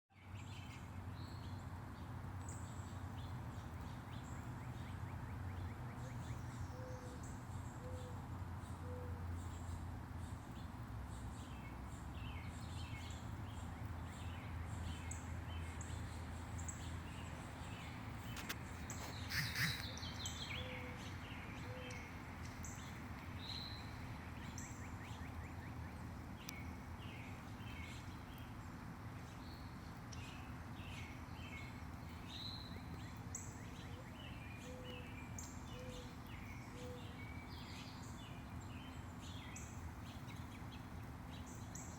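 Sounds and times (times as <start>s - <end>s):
songbirds chirping: 0.1s - 41.9s.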